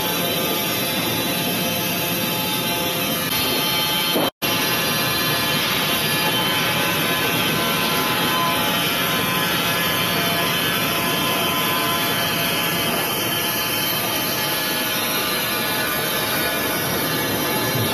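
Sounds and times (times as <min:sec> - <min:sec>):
band sawmill cutting log: 0:02.3 - 0:17.9.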